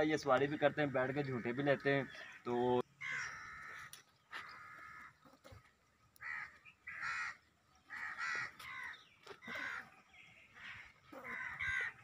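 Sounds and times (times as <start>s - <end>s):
crows cawing: 0.5s - 10.0s, 10.6s - 12.0s.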